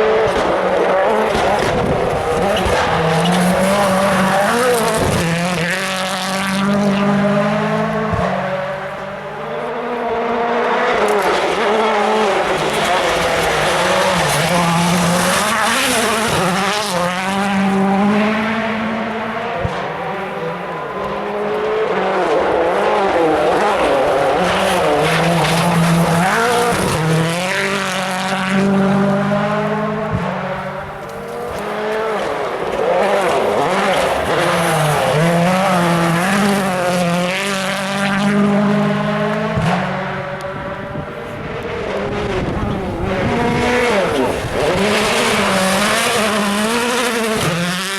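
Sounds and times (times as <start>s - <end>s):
rally car engine revving: 0.0s - 47.9s.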